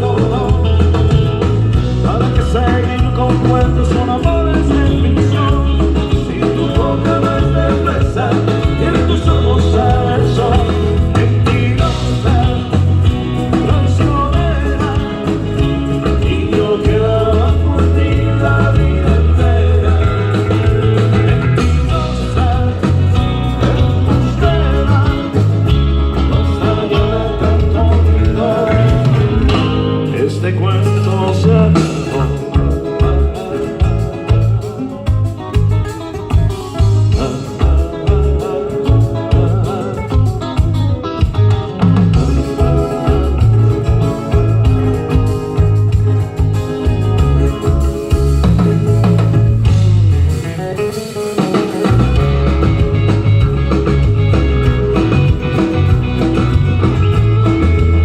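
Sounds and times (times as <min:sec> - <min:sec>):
bass line: 0:00.0 - 0:58.0
guitar: 0:00.0 - 0:58.0
rock band playing: 0:00.0 - 0:58.0.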